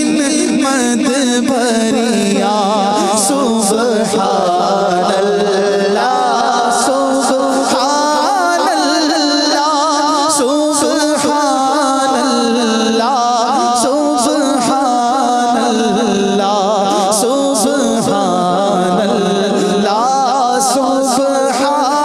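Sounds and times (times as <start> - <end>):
men singing devotional song: 0.0 - 22.0.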